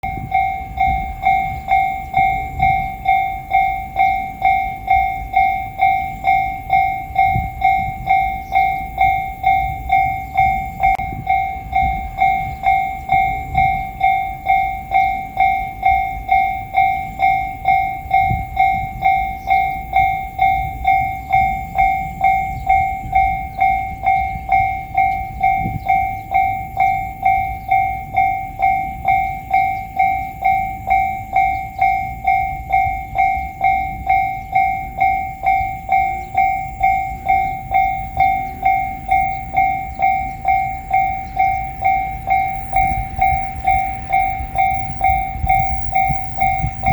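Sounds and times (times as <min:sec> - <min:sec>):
level crossing alarm bell ringing: 0:00.0 - 0:46.9.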